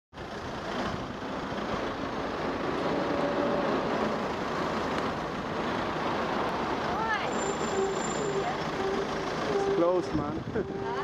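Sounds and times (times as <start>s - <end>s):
city road traffic: 0.1s - 11.0s.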